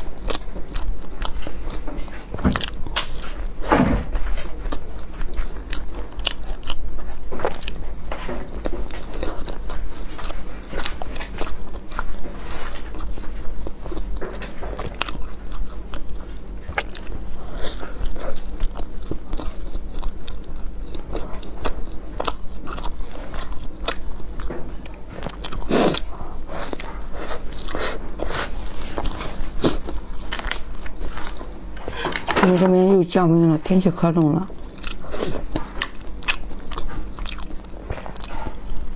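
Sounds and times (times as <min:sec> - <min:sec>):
close chewing with wet mouth clicks: 0:00.0 - 0:03.6, 0:04.2 - 0:32.3, 0:34.2 - 0:38.9.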